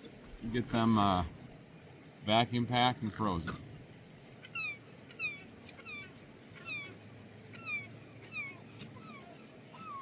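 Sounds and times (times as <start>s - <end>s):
gulls calling: 0.5s - 10.0s.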